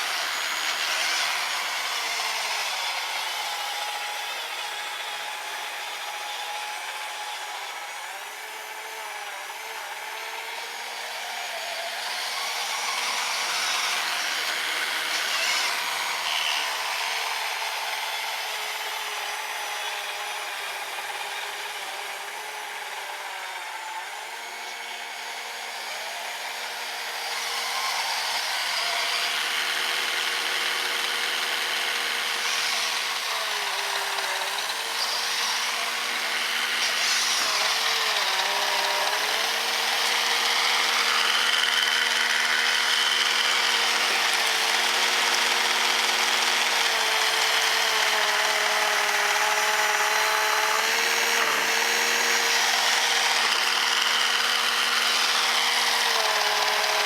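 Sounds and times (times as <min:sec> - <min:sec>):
electric motor whine: 0:00.0 - 0:57.0.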